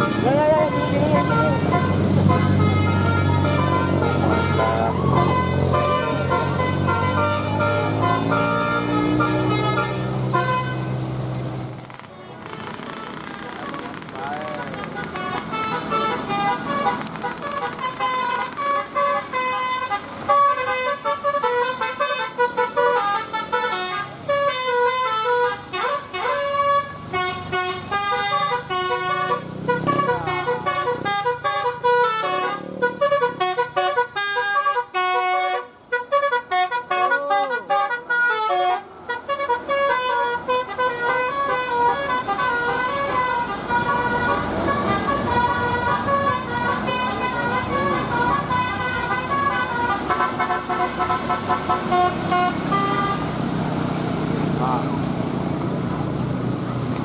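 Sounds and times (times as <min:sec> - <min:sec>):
bus musical horn playing tunes: 0:00.0 - 0:54.8.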